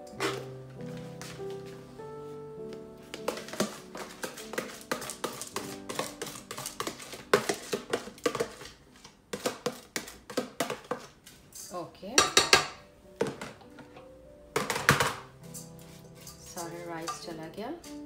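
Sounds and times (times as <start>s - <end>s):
background music: 0.0s - 8.7s, 11.7s - 18.0s.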